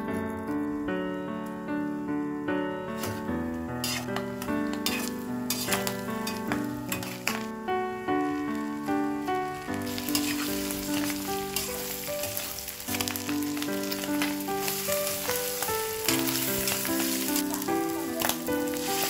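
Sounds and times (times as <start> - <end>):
background music: 0.0 - 19.0
metal spatula stirring: 3.0 - 7.6, 8.2 - 19.0
food sizzling in oil: 3.0 - 19.0.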